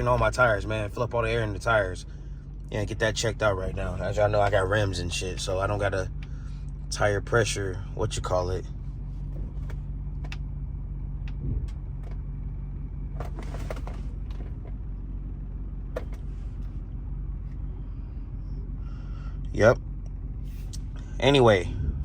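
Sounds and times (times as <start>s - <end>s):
car engine hum inside cabin: 0.0s - 22.0s.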